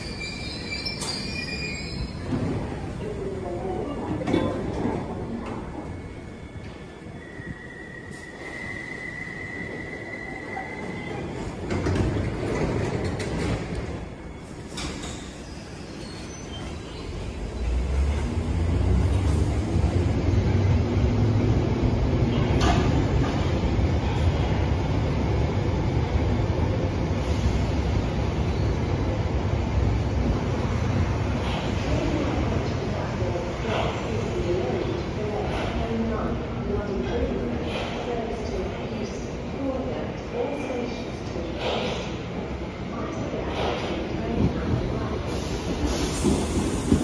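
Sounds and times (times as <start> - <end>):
train rumble and hiss: 0.0 - 47.0.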